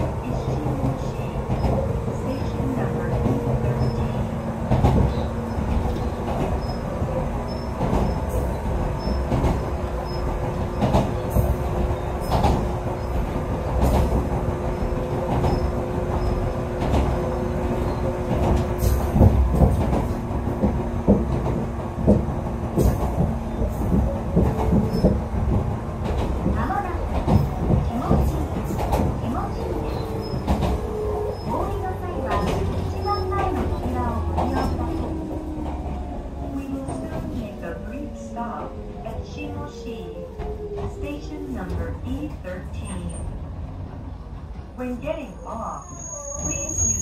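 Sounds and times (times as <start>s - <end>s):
wheels clicking on track: 0.0s - 44.8s
train rumble: 0.0s - 47.0s.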